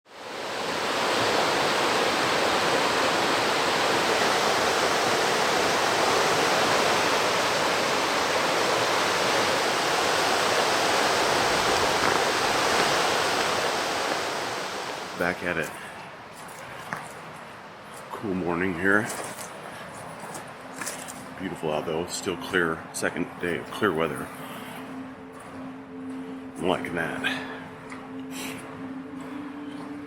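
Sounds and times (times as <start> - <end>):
flowing water rushing: 0.1 - 30.0.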